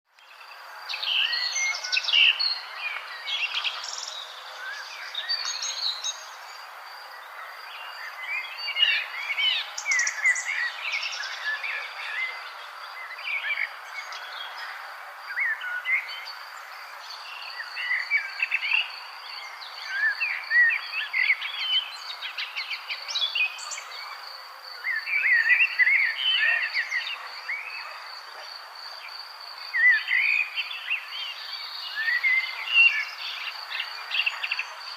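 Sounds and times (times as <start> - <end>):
birds singing and chirping: 0.2 - 34.9.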